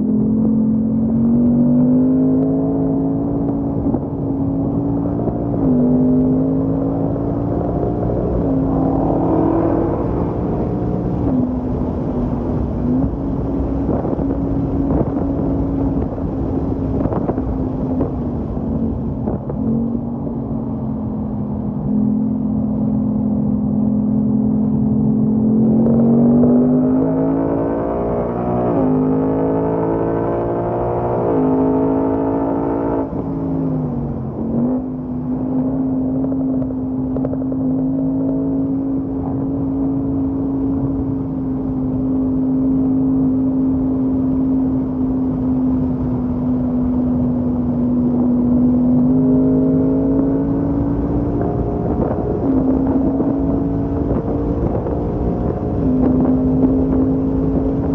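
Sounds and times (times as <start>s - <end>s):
car engine from inside cabin: 0.0s - 57.9s.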